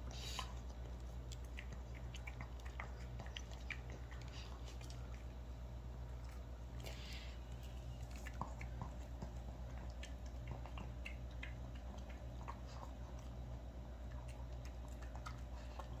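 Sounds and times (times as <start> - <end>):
dog chewing food: 0.0 - 16.0
steady low hum: 0.0 - 16.0.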